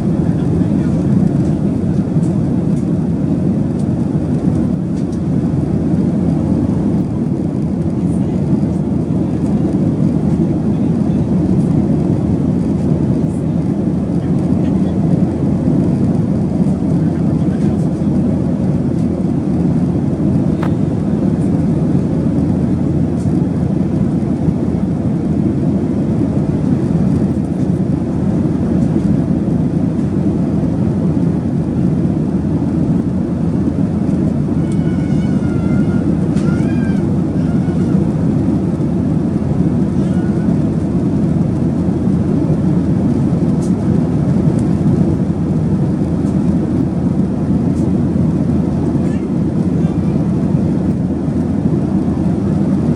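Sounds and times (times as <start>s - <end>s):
airliner cabin engine roar: 0.0s - 52.9s.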